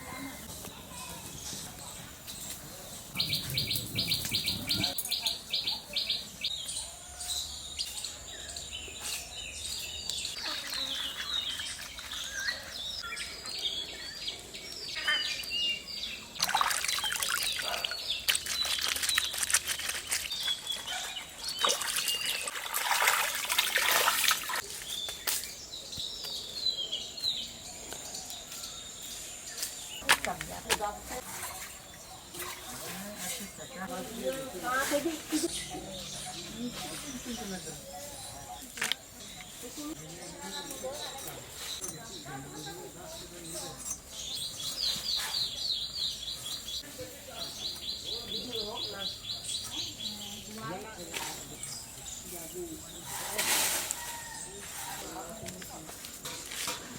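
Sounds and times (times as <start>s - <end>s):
birds chirping: 0.0s - 56.4s.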